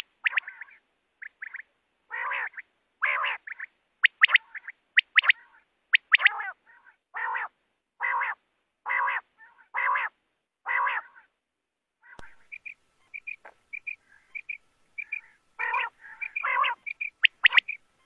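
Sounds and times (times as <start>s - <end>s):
quail calling: 0.0s - 11.3s, 12.0s - 18.0s.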